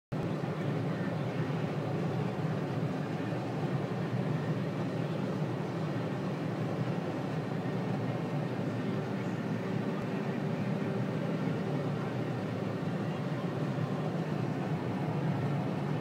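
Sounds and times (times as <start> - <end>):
tractor engine drone: 0.1 - 16.0.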